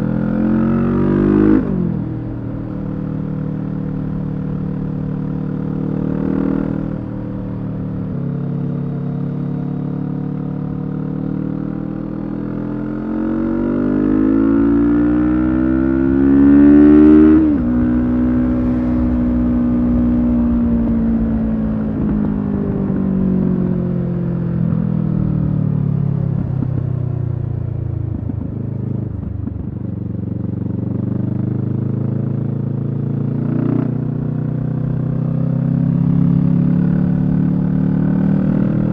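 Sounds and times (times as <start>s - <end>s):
motorcycle engine revving: 0.0s - 26.7s, 27.7s - 38.9s.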